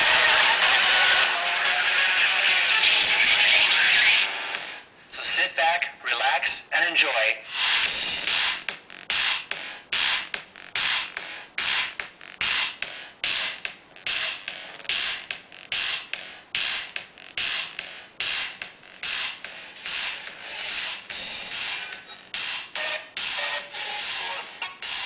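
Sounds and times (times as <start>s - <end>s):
rhythmic music through tiny speaker: 0.0s - 25.0s.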